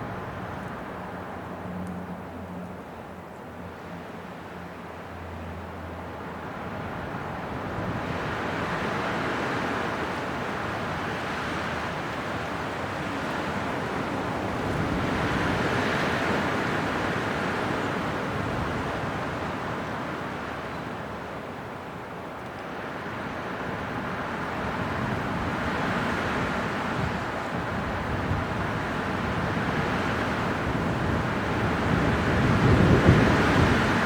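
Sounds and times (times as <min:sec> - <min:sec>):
wind blowing in gusts: 0:06.2 - 0:34.0.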